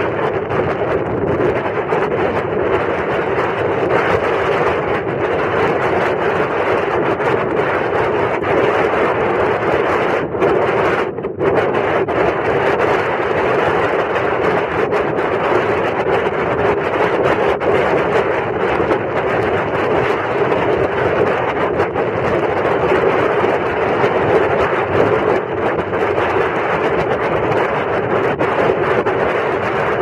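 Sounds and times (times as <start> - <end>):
water rushing along hull: 0.0 - 30.0
wind on microphone: 0.0 - 30.0.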